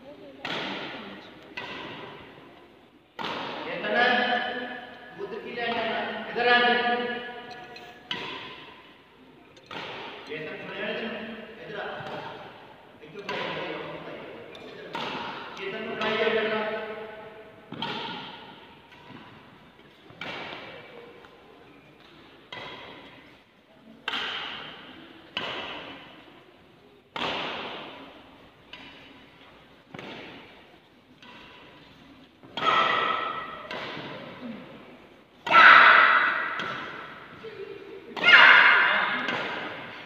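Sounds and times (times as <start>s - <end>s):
racket hitting shuttlecock: 0.4s - 2.5s, 3.2s - 26.4s, 27.1s - 40.0s.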